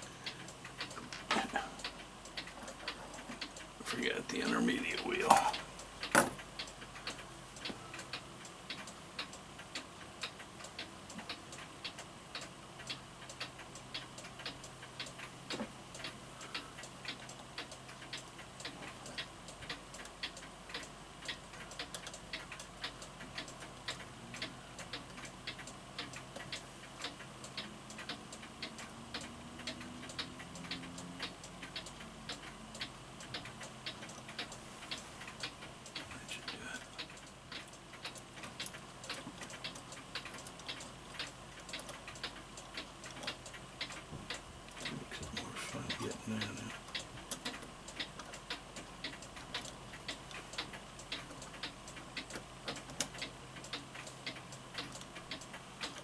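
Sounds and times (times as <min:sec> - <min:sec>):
mantel clock ticking: 0:00.0 - 0:56.0.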